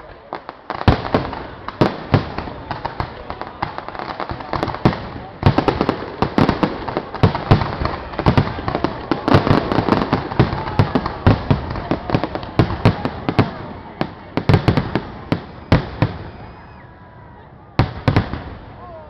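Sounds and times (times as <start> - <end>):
fireworks bangs and crackles: 0.0 - 16.9, 17.7 - 19.0.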